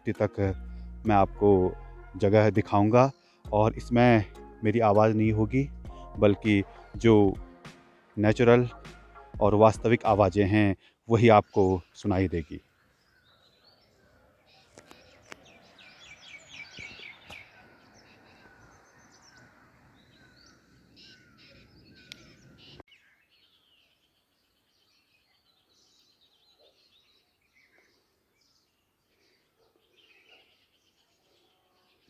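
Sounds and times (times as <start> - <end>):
birds chirping and singing: 0.0 - 7.5, 8.2 - 32.0.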